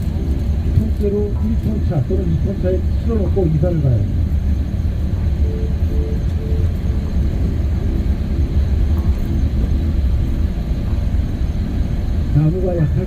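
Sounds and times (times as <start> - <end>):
faint even hum: 0.0 - 13.0
vehicle engine and road rumble: 0.0 - 13.0.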